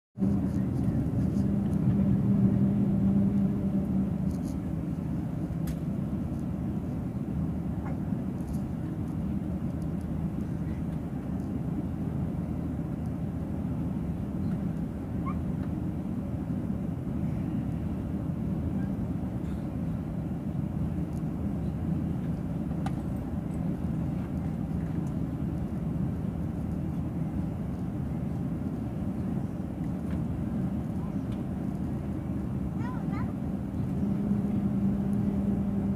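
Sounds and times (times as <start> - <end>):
airliner cabin rumble: 0.2 - 35.9.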